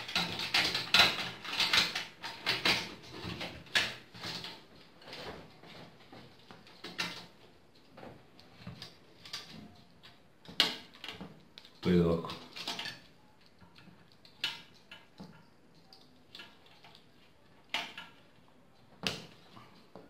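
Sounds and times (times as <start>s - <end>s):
hands rustling cables: 0.0s - 20.0s.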